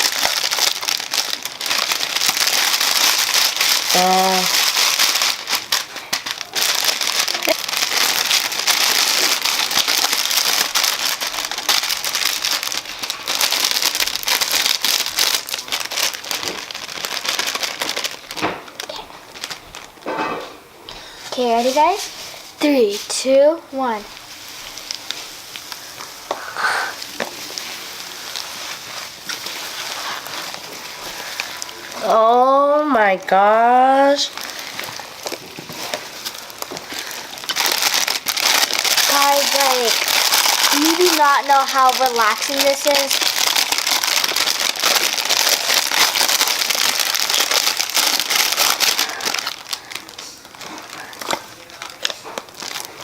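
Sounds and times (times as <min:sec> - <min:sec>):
slime crackling and squelching: 0:00.0 - 0:20.0, 0:21.3 - 0:53.0.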